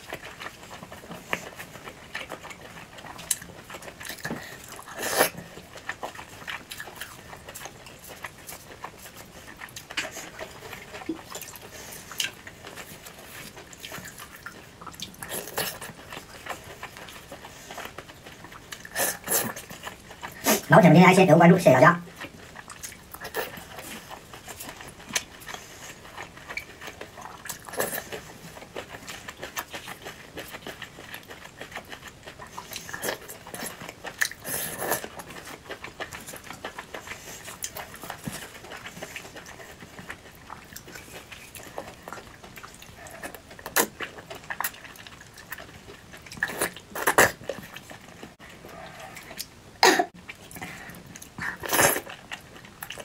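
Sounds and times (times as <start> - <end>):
chewing and biting food: 0.0 - 20.7, 22.0 - 53.0.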